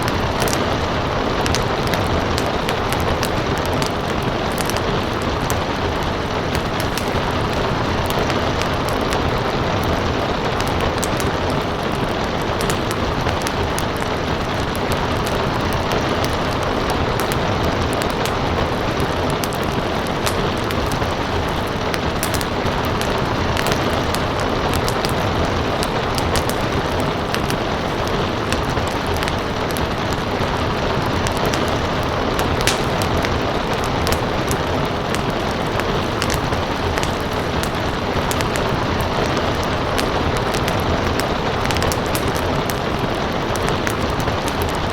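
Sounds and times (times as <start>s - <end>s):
rain: 0.0s - 44.9s
wood fire crackling: 0.0s - 44.9s.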